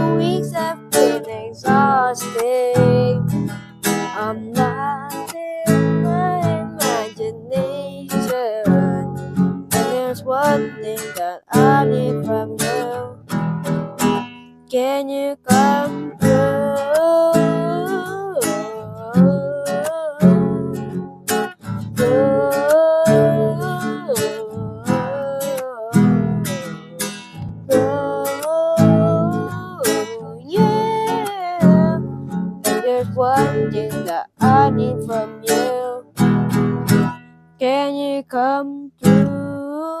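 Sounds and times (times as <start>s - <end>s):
acoustic guitar strumming chords: 0.0s - 40.0s.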